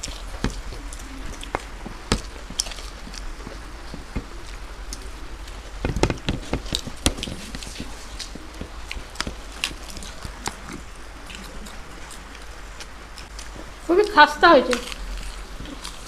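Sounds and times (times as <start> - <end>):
crisp food being crunched: 0.0 - 16.0.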